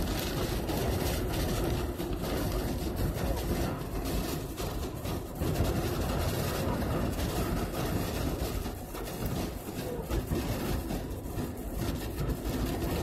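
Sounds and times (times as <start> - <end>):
road and wind noise inside car: 0.0 - 13.0.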